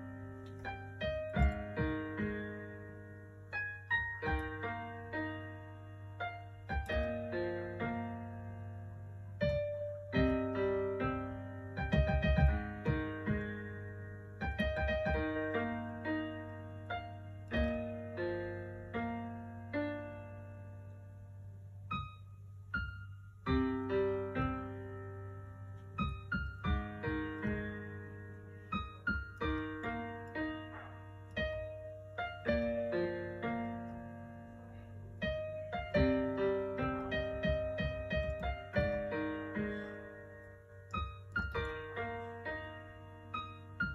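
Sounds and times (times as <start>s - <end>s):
slow piano melody: 0.0s - 43.9s.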